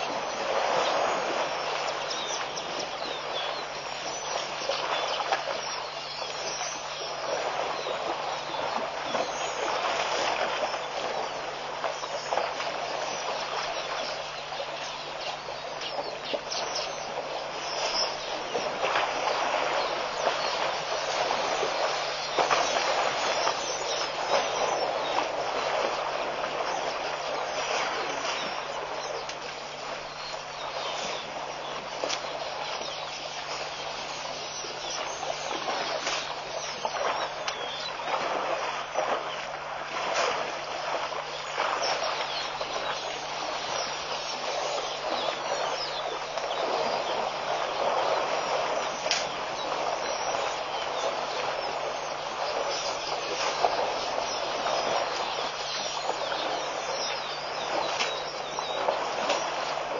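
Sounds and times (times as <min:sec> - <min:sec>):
churned water wash: 0:00.0 - 0:59.9
elephants splashing: 0:00.0 - 0:59.9.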